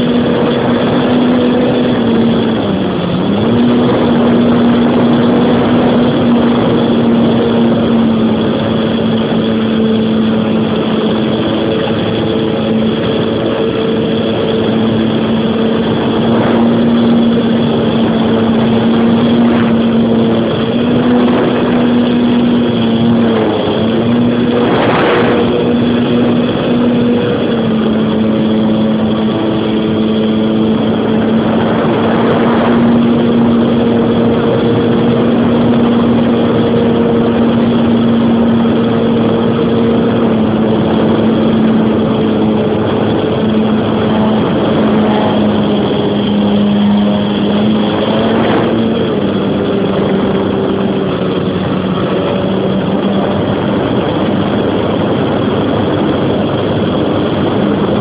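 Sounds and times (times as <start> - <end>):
model plane motor whine: 0.0 - 58.0
rush of air: 0.0 - 58.0.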